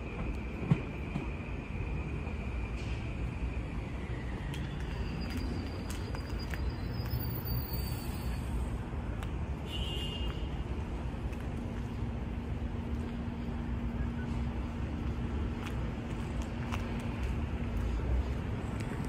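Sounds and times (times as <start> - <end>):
train rumbling: 0.0 - 9.7, 10.3 - 19.0.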